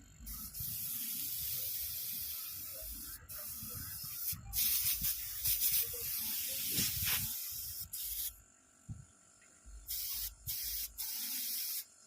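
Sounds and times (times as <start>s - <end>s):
air compressor spray nozzle hissing: 0.3s - 8.4s, 9.8s - 12.0s.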